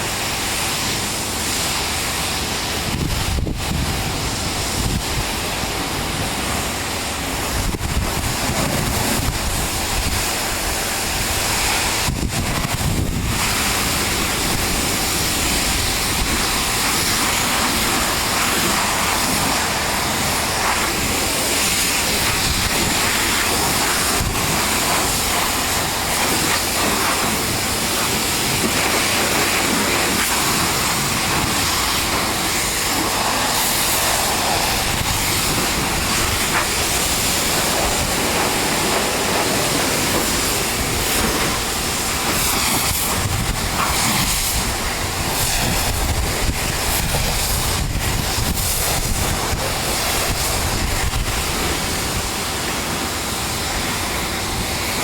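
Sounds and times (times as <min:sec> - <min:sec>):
pressure washer spray hissing: 0:00.0 - 0:55.0.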